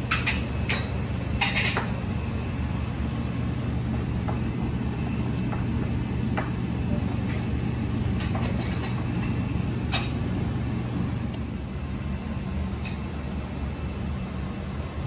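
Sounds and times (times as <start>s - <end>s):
kitchen machinery hum: 0.0s - 15.0s.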